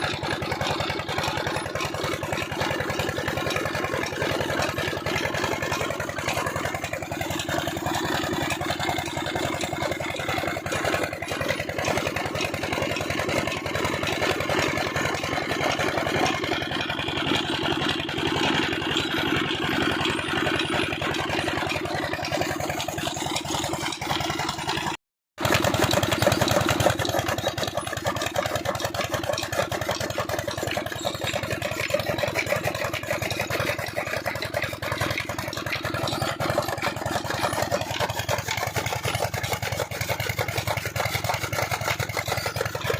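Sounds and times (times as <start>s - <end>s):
diesel engine chugging: 0.0s - 42.9s.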